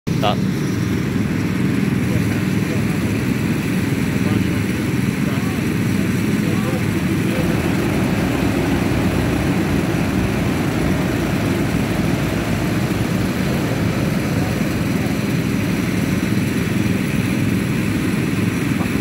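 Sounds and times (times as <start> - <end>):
go-kart engines droning: 0.8 - 19.0.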